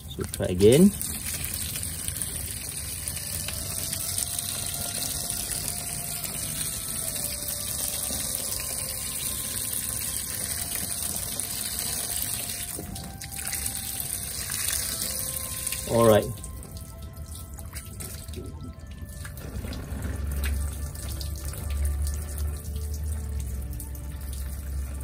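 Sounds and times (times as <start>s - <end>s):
hose water splashing on plastic: 0.0s - 25.0s.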